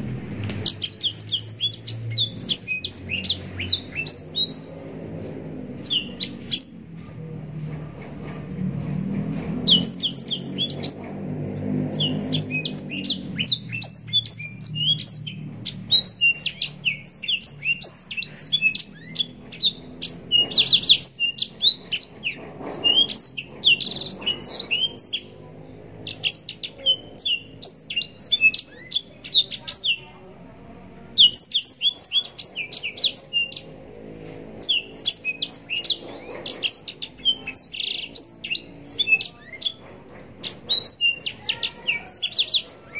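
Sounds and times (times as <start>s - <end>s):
canary singing chirps and trills: 0.0s - 42.9s.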